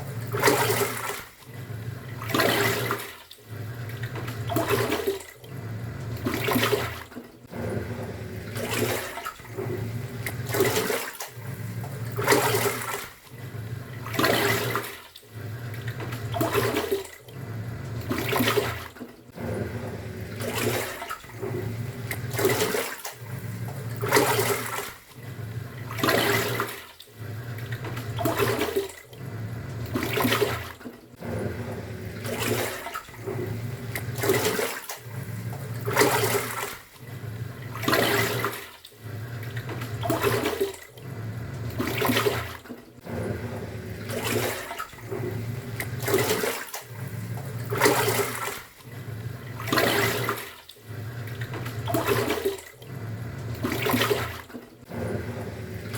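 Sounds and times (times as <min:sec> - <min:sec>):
washing machine motor humming: 0:00.0 - 0:55.9
water swishing and splashing: 0:00.0 - 0:55.9.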